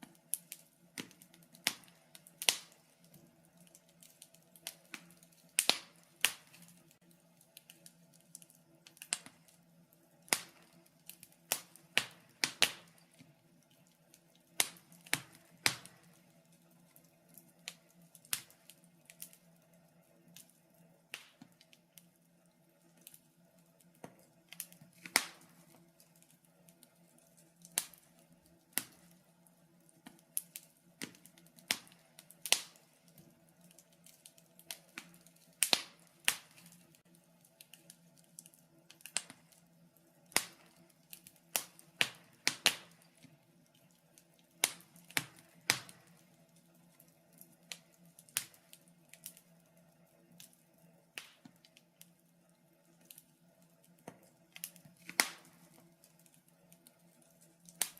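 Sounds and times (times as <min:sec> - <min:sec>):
faint steady hum: 0:00.0 - 0:57.9
wood fire crackling: 0:00.0 - 0:57.9.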